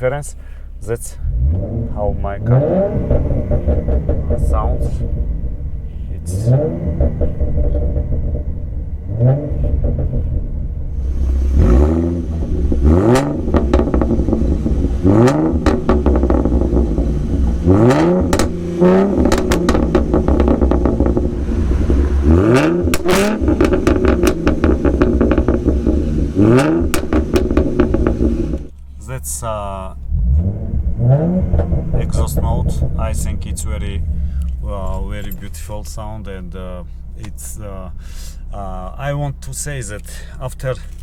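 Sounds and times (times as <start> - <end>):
car engine idling and revving: 0.0 - 41.0.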